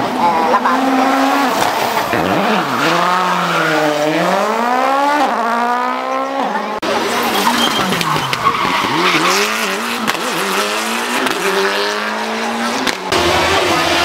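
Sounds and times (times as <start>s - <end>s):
rally car engines at full throttle: 0.0s - 14.0s.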